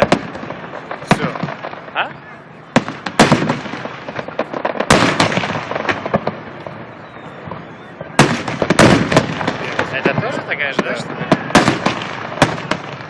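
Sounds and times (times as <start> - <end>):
crackling firework pops: 0.0 - 2.1, 2.8 - 13.0
firework shells bursting bangs: 0.0 - 2.1, 2.7 - 13.0.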